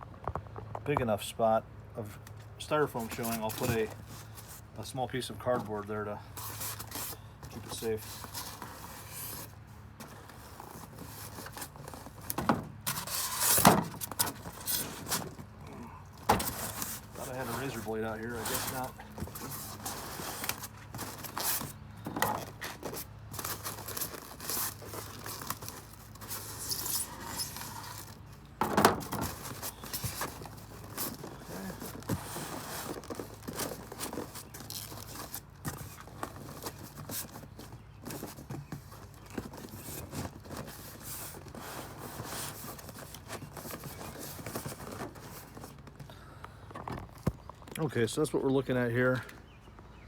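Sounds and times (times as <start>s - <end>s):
cardboard scraping and rustling: 2.8s - 46.1s.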